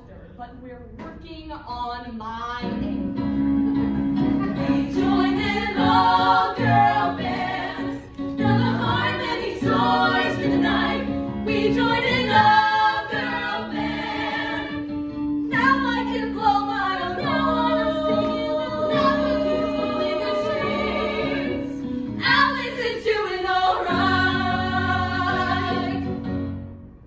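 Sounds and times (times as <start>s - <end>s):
held accompaniment chords: 2.6s - 27.0s
girls singing in harmony: 4.4s - 26.2s.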